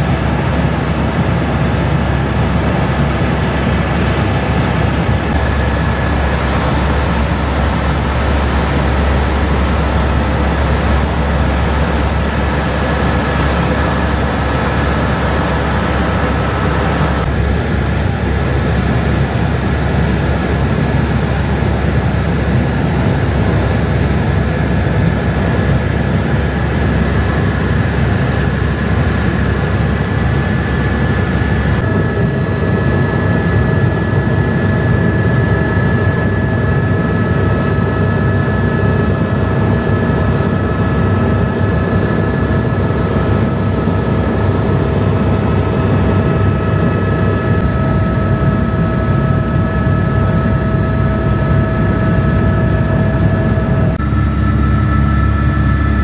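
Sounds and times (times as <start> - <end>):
helicopter in flight: 0.0 - 56.0.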